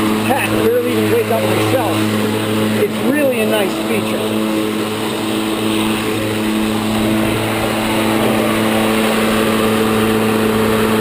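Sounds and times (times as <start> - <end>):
electric lawn mower cutting grass: 0.0 - 11.0.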